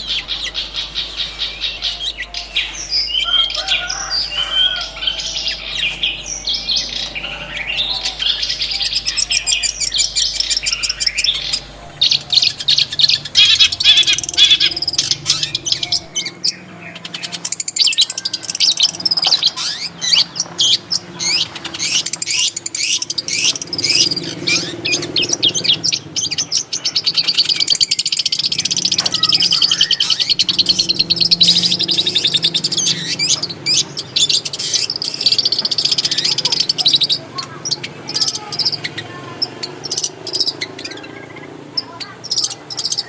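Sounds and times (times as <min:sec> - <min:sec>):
bird singing chattering notes: 0:00.0 - 0:43.0.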